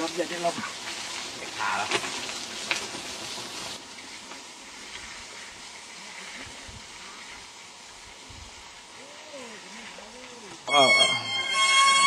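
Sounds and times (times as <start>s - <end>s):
bike tyres hissing on dirt: 0.0s - 12.0s.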